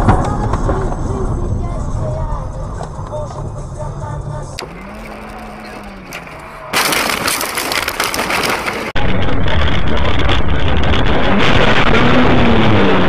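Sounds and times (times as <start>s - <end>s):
car road and wind noise: 0.0s - 6.4s, 8.9s - 13.0s
dull road noise rumble: 0.0s - 13.0s.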